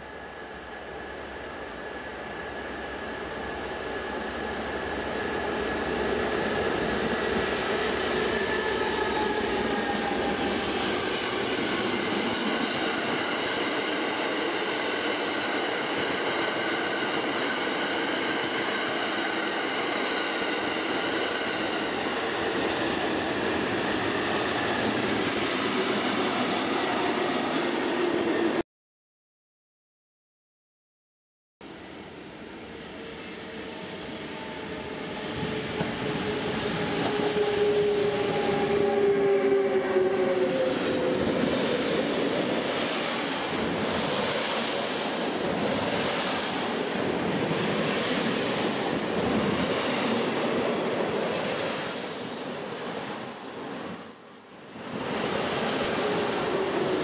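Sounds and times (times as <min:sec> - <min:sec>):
diesel locomotive passing: 0:00.1 - 0:28.6, 0:31.7 - 0:57.0.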